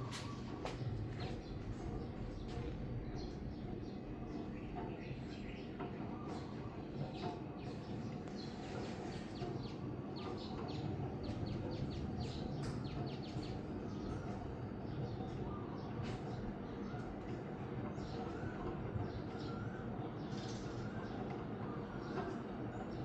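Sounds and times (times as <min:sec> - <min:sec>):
birds chirping: 0:00.0 - 0:23.0
ceiling fan whirring: 0:00.0 - 0:23.0.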